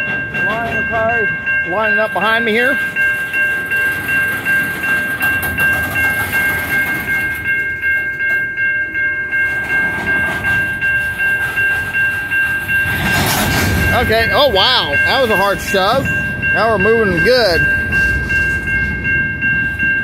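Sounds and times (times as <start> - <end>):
crossing bell ringing: 0.0 - 20.0
train cars rumbling: 0.0 - 20.0.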